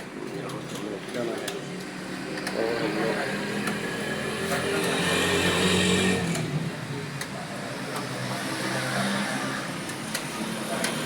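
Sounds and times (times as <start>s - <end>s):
passing vehicle engine: 1.9s - 11.0s.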